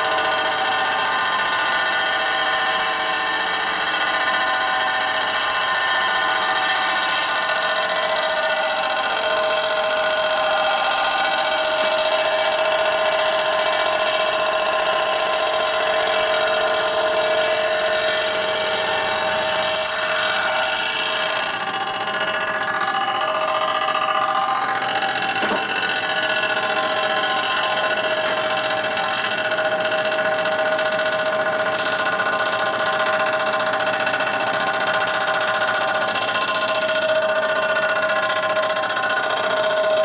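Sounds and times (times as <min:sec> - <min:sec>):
machine tool whining and grinding: 0:00.0 - 0:40.0.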